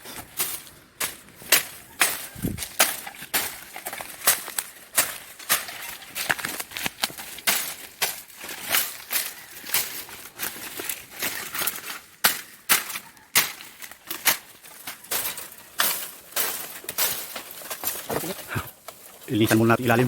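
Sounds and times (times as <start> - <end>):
dry leaves and twigs crunching: 0.0 - 20.0.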